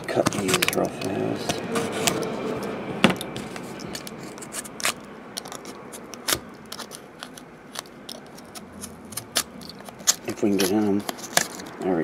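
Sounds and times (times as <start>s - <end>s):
knife blade cutting wrappers: 0.0s - 11.8s.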